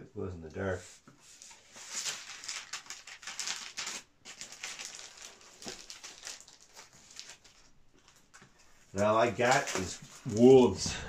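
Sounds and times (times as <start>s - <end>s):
paper rustling and crinkling: 0.8s - 11.0s.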